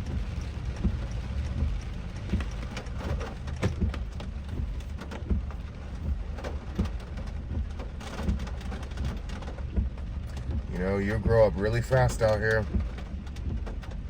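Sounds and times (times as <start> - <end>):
car road rumble: 0.0 - 14.0
rain hitting car roof: 0.0 - 14.0.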